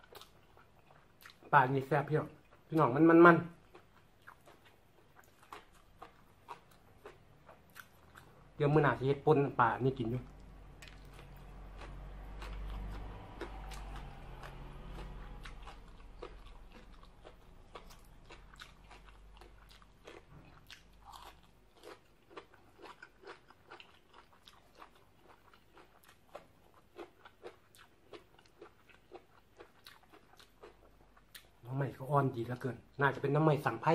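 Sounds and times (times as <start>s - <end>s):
crunchy chewing: 0.0s - 1.5s, 3.5s - 9.1s, 9.8s - 31.6s.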